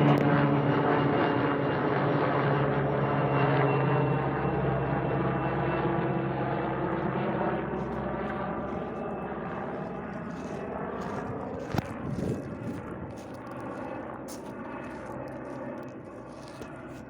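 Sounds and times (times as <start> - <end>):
helicopter flying past: 0.0 - 17.0.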